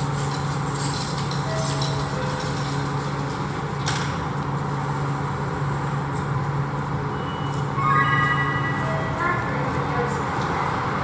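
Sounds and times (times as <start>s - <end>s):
constant low hum: 0.0s - 11.0s
railway station and street noise: 0.0s - 11.0s.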